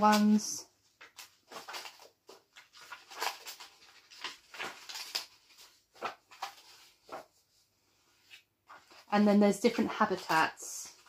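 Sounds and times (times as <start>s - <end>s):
paper pages turning: 0.0s - 11.0s.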